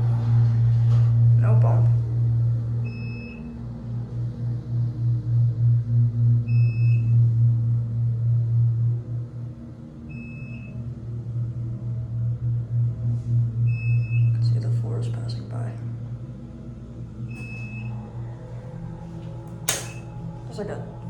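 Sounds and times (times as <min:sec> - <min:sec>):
elevator pump motor humming: 0:00.0 - 0:21.0.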